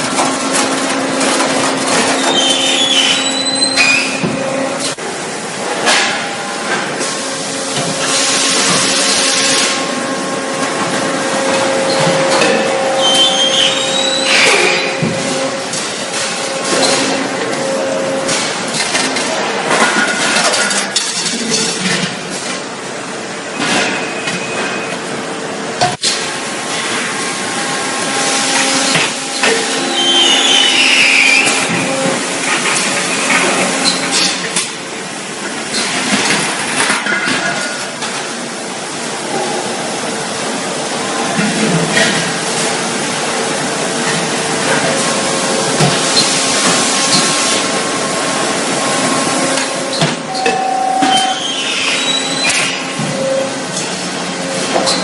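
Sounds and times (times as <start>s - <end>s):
machinery running: 0.0s - 55.0s.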